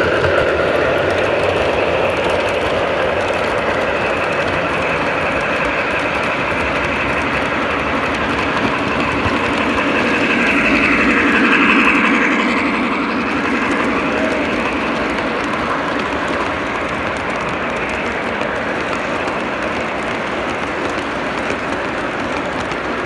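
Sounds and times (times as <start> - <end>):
model train wheels rumbling on rails: 0.0 - 23.0.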